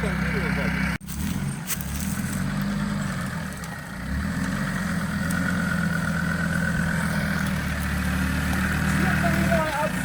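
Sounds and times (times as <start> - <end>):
suv engine running at low revs: 0.0 - 10.0.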